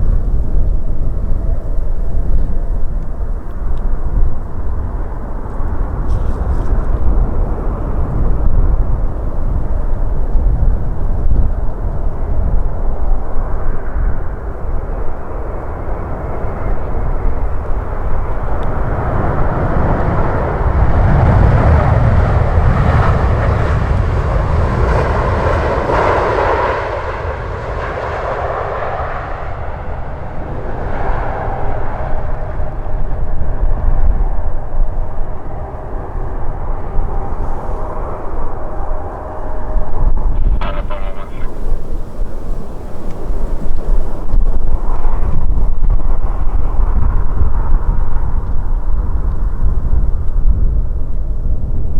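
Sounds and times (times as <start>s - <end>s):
jet airliner engines passing: 0.0s - 51.9s.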